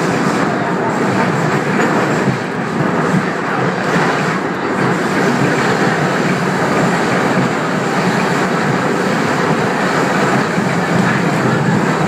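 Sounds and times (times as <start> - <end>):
subway train wheels on rail: 0.0 - 12.0.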